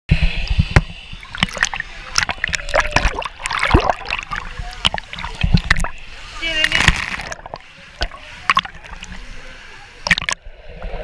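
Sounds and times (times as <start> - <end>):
bubbling water: 0.3 - 9.3, 10.0 - 10.4
water sloshing and splashing: 0.3 - 11.0.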